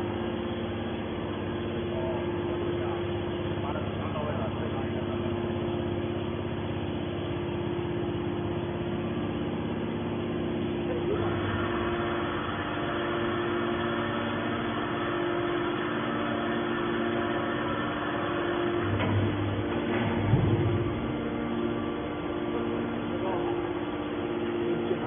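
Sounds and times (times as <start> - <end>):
can baler pump motor humming: 0.0 - 25.0.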